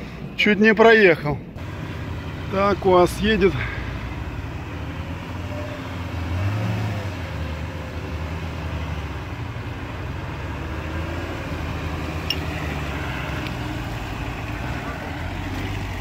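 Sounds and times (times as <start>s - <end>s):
off-road vehicle engine running: 1.4s - 16.0s.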